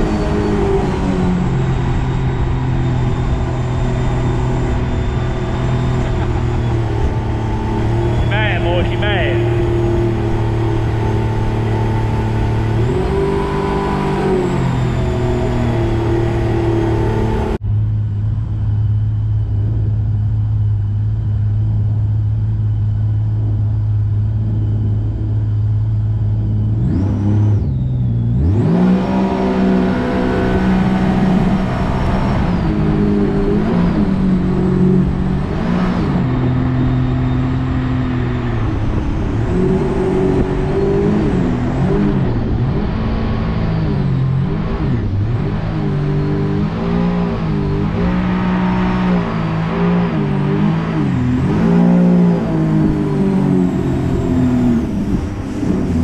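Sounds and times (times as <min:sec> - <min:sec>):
jet boat engine droning: 0:00.0 - 0:56.0.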